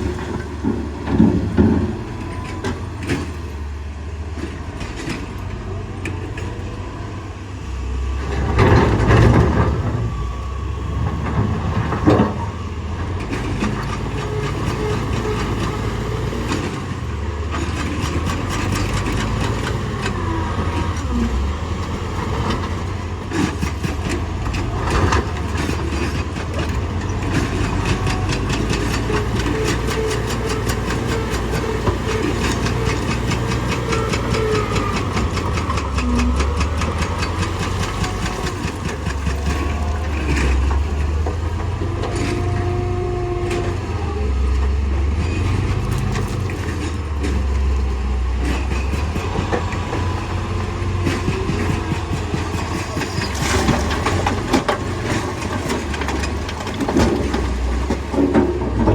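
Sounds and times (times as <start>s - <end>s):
heavy machinery engine rumbling: 0.0s - 58.9s.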